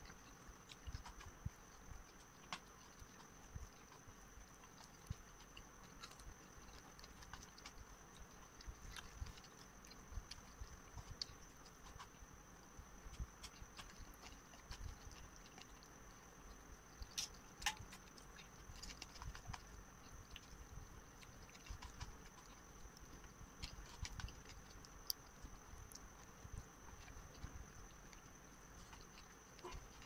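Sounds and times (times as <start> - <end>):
mouth chewing: 0.0 - 30.0.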